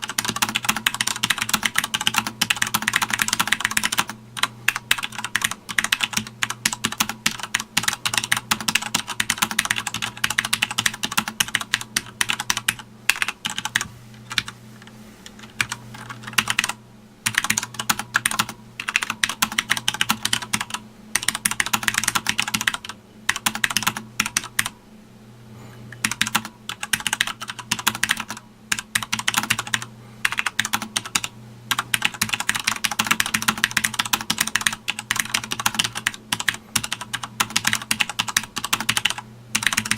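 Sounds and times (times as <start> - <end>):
mechanical keyboard typing: 0.0 - 14.5, 15.3 - 24.7, 26.0 - 39.9.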